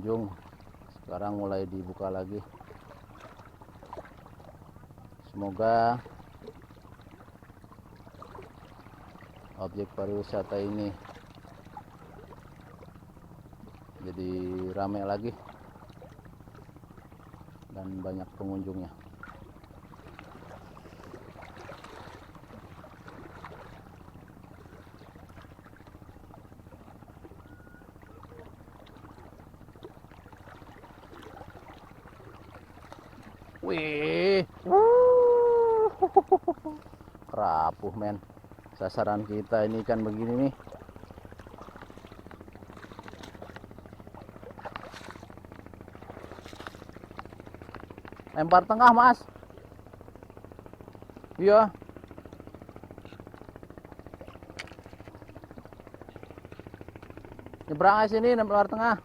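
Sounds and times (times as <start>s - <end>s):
faint water splashes: 0.0s - 59.0s
low engine hum: 0.0s - 59.0s
small waves lapping: 0.0s - 59.0s.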